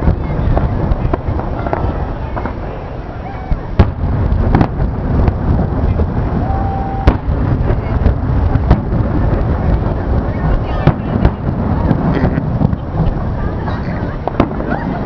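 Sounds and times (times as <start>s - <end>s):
fireworks booming: 0.0s - 15.0s
sharp fireworks bangs: 0.0s - 15.0s.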